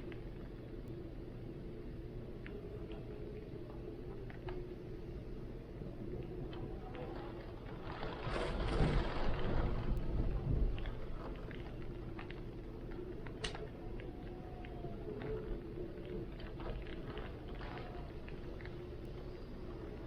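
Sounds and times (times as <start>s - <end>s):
raindrops ticking: 0.0s - 20.0s.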